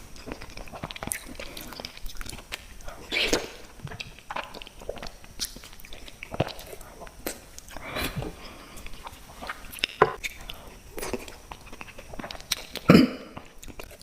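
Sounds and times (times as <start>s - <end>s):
person chewing sweets: 0.0s - 14.0s.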